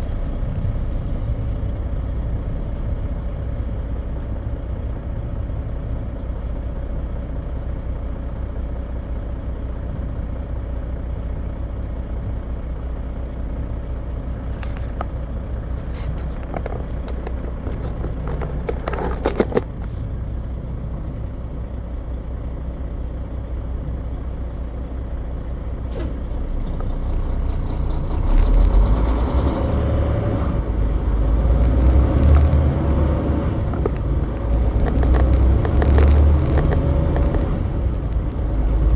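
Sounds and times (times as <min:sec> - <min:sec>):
semi truck engine rumbling: 0:00.0 - 0:38.9.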